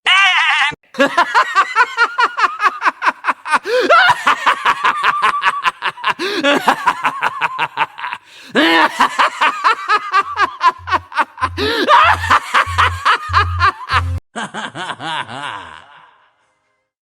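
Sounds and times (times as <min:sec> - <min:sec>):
rapid high-pitched laughter: 0:00.1 - 0:16.3.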